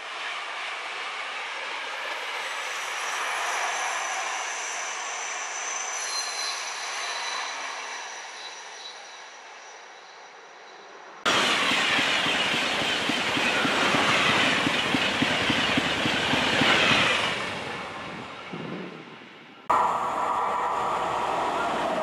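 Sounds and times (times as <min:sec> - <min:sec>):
train passing close at speed: 0:00.0 - 0:22.0
train running along track: 0:00.0 - 0:22.0.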